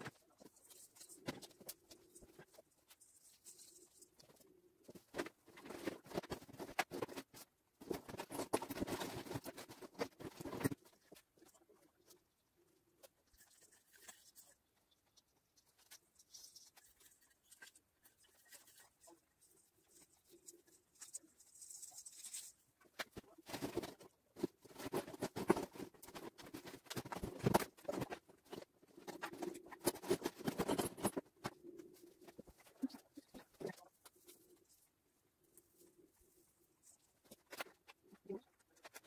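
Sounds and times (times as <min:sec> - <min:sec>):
decorations rustling and clicking: 0:00.0 - 0:39.0.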